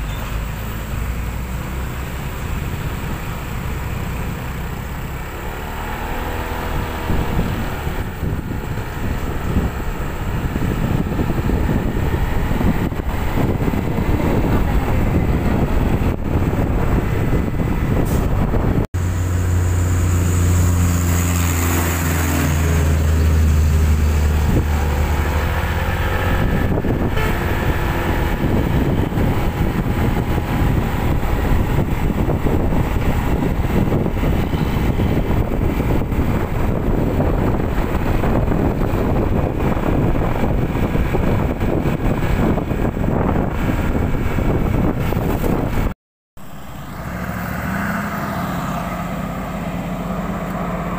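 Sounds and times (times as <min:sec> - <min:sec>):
wind noise on microphone: 0:00.0 - 0:46.0
diesel truck engine humming: 0:00.0 - 0:50.9
road traffic: 0:00.0 - 0:50.9.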